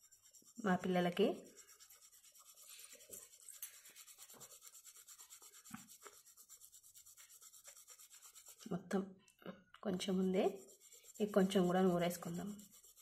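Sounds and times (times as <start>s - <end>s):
almond being ground into paste: 0.0s - 8.7s, 10.1s - 13.0s.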